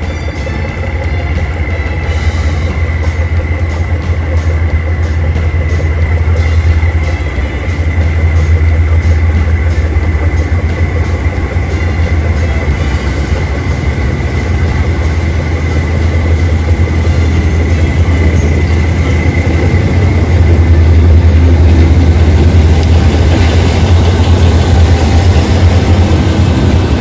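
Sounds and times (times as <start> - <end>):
diesel train engine rumble: 0.0 - 27.0.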